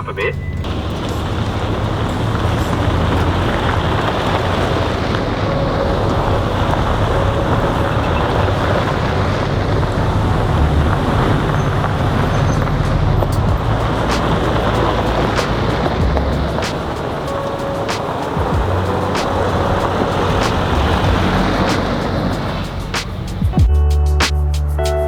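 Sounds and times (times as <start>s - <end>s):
tyre and road noise: 0.0s - 25.0s
vehicle engine drone: 0.0s - 25.0s.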